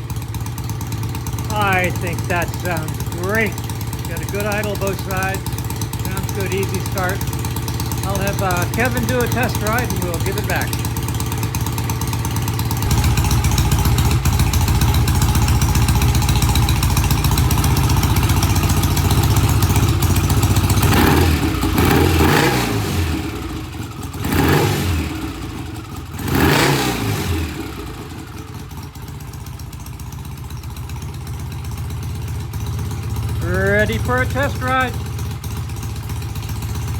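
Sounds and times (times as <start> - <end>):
engine idling and revving: 0.0 - 36.9.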